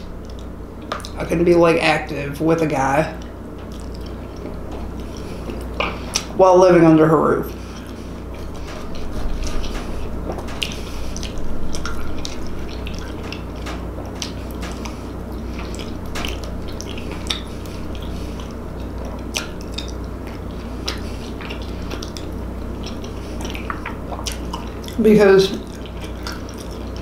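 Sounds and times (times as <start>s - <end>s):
steady low hum: 0.0s - 27.0s
wet chewing and mouth smacks: 0.2s - 1.2s, 3.2s - 6.4s, 7.6s - 27.0s.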